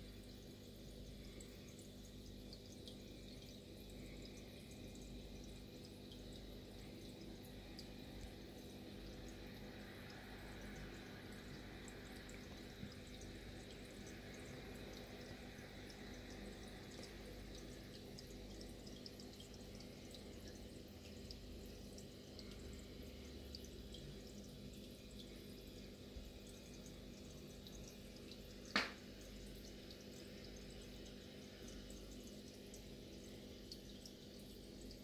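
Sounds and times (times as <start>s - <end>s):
aquarium water trickling and dripping: 0.0s - 35.0s
steady low hum: 0.0s - 35.0s
small ticks: 0.9s - 32.9s.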